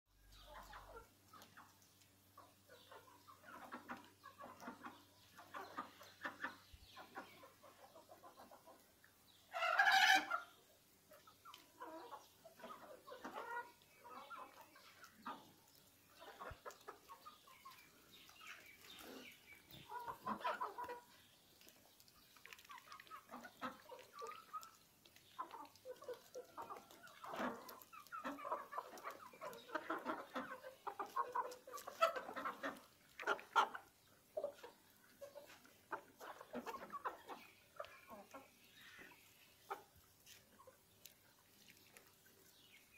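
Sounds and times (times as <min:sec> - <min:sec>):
chickens clucking: 0:00.1 - 0:42.9.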